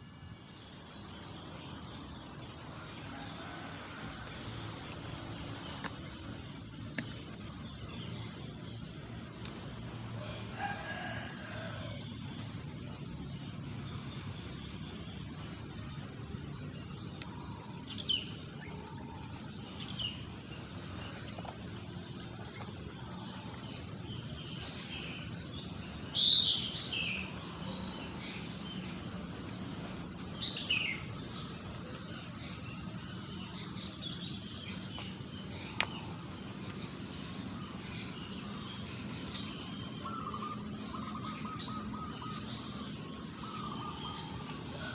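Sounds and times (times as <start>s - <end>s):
birds chirping: 0.0s - 44.9s
outdoor background hum: 0.0s - 44.9s.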